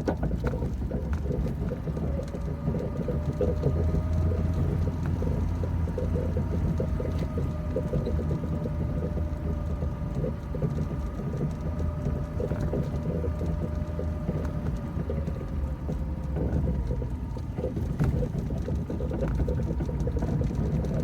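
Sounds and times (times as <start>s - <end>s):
faint whine: 0.0s - 21.0s
vehicle engine rumbling: 0.0s - 21.0s.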